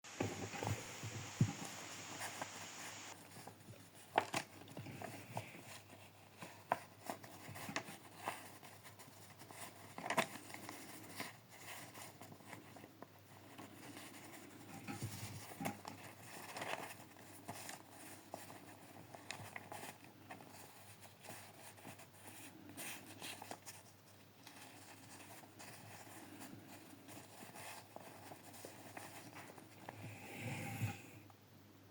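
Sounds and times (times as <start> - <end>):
paper banknote rustling: 0.2 - 30.0.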